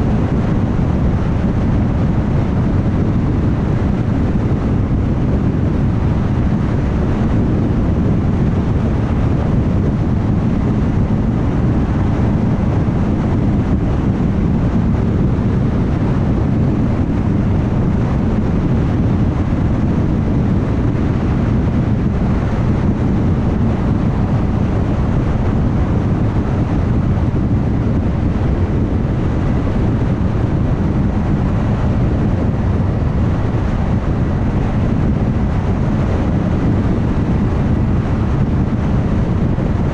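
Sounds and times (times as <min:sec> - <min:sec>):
car tyre roar: 0:00.0 - 0:39.9
wind rush: 0:00.0 - 0:39.9.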